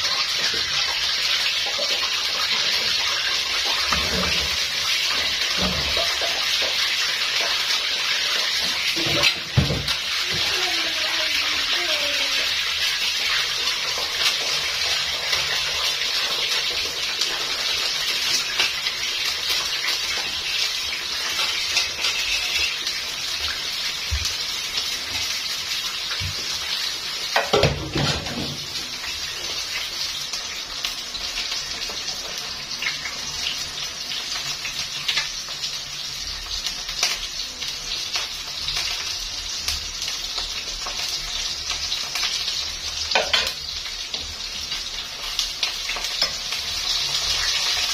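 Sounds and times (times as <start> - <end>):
chips sizzling in hot oil: 0.0 - 47.9.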